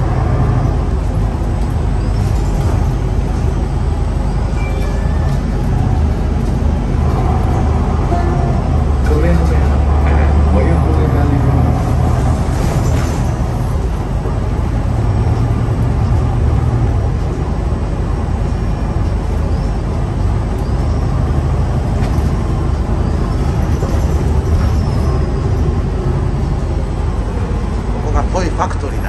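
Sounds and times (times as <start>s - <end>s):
bus engine drone: 0.0s - 29.0s
road noise: 0.0s - 29.0s.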